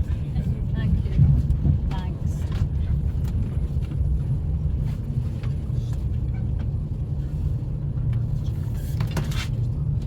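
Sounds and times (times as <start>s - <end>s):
train rumbling inside carriage: 0.0s - 10.0s.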